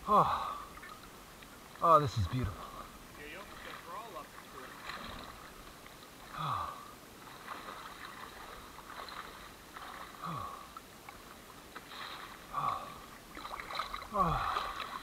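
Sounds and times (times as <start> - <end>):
small waves lapping: 0.0 - 15.0.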